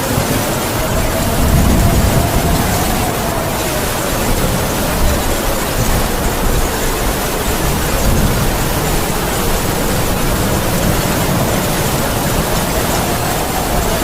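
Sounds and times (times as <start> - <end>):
heavy rain falling: 0.0 - 14.0
strong wind: 0.0 - 14.0.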